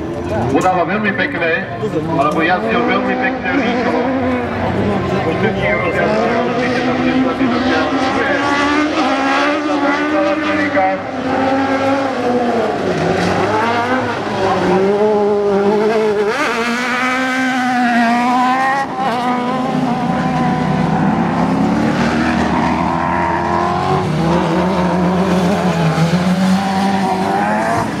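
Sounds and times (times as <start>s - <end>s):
buggy engines revving hard: 2.0s - 28.0s.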